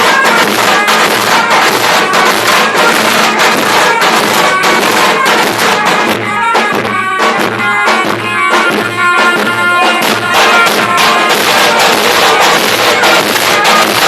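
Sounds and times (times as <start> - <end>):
held-note folk melody: 0.0 - 14.0
steady drum beat: 0.0 - 14.0.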